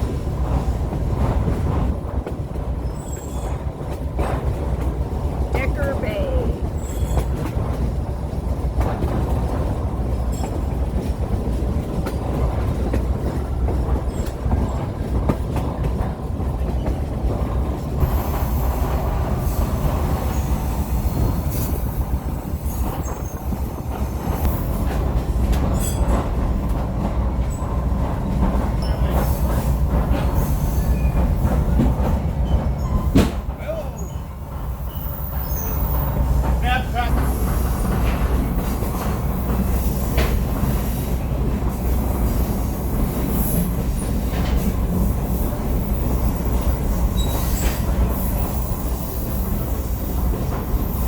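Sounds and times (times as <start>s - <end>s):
train cars rumbling on track: 0.0s - 51.0s.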